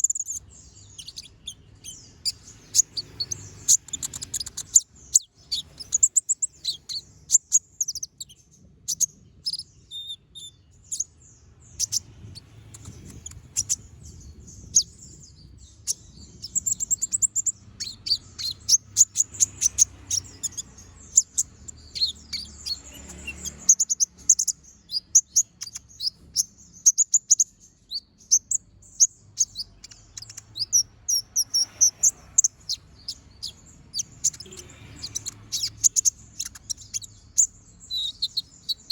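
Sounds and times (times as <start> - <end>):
sunbird singing high chirps and trills: 0.0 - 38.9.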